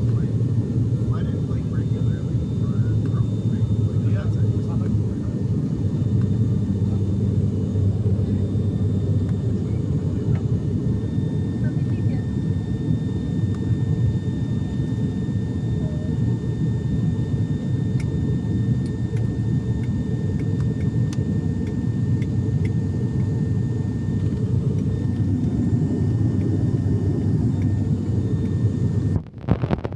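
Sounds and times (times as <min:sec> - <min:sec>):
thin steady whine: 0:00.0 - 0:29.3
airliner engine rumble: 0:00.0 - 0:29.4.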